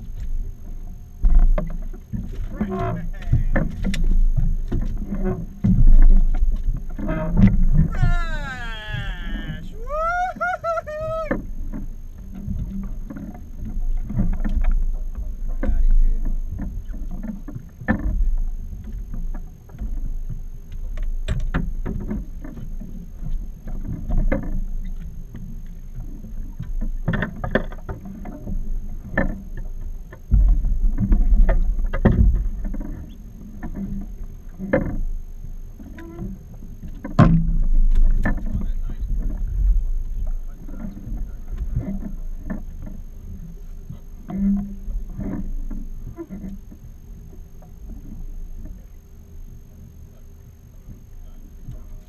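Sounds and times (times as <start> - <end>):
knocks and clunks on boat deck: 0.0 - 49.0.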